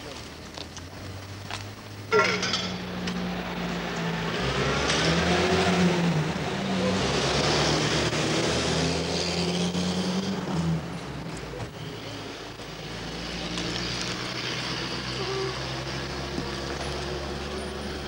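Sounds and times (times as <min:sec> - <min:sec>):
road and air noise: 0:00.0 - 0:18.0
vehicle engine humming: 0:00.0 - 0:18.0.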